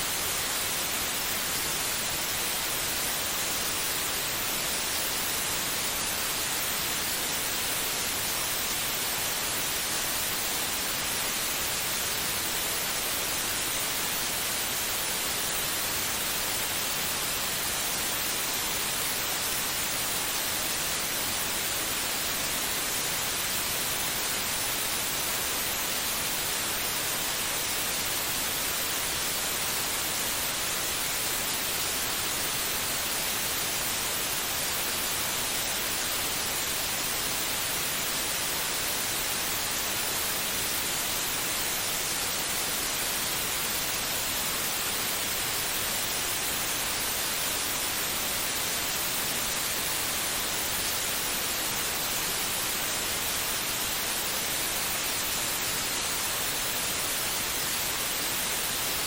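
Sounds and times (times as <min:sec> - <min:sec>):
steady white noise: 0:00.0 - 0:59.0.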